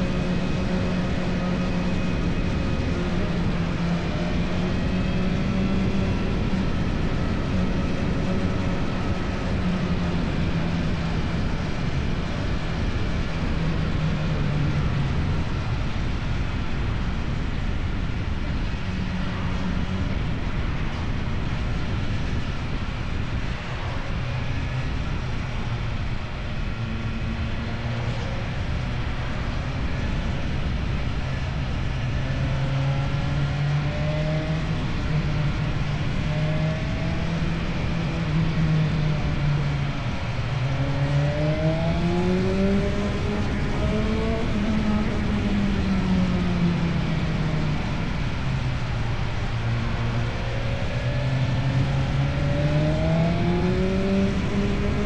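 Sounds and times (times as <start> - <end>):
motorcycle engine drone: 0.0 - 55.0
road noise: 0.0 - 55.0
rushing wind: 0.0 - 55.0.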